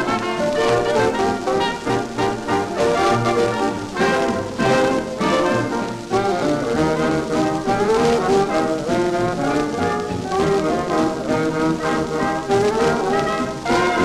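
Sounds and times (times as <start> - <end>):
swing dance orchestra on record: 0.0 - 14.0.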